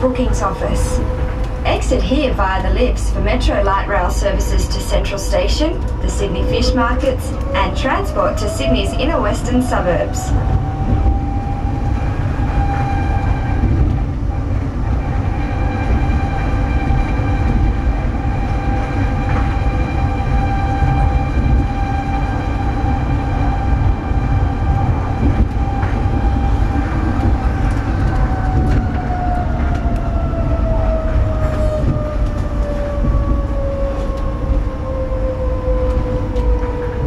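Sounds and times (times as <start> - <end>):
monorail train rumble and whine: 0.0 - 37.0.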